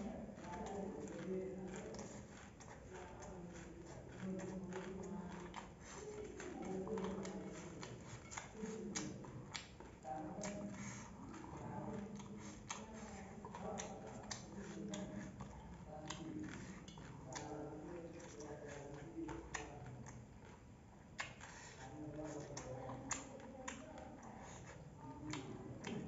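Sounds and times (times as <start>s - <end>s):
person eating with lip-smacking: 0.0s - 26.0s.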